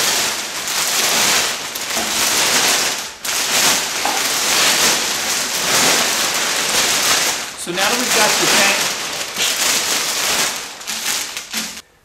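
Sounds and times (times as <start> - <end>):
plastic sheeting crinkling: 0.0 - 11.8.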